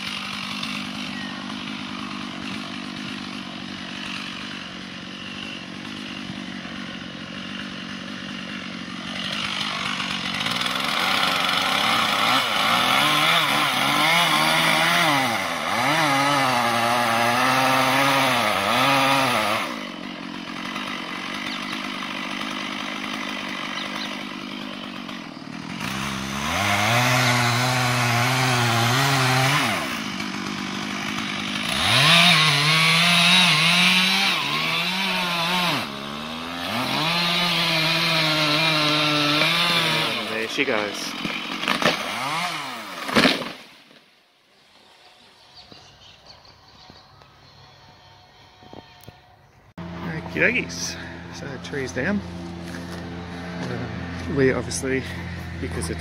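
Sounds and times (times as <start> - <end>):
chainsaw idling: 0.0 - 44.0, 49.8 - 56.0
chainsaw cutting tree trunk: 0.0 - 46.0, 49.8 - 56.0.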